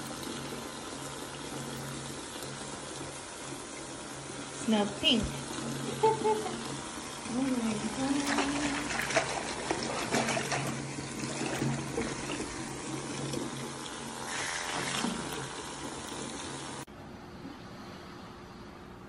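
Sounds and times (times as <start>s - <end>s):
bath tap running: 0.0s - 16.9s.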